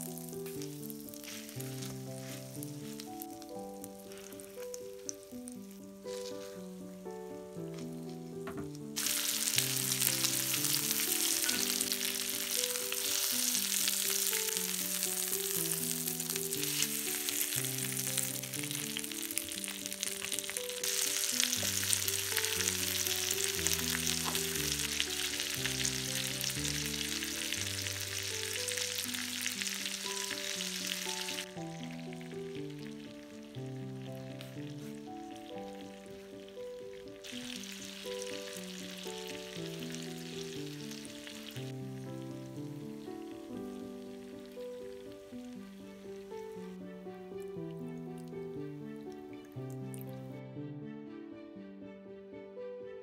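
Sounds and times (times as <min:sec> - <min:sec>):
chicken sizzling in a pan: 0:00.0 - 0:06.8, 0:08.5 - 0:46.6
soft background music: 0:00.0 - 0:53.0.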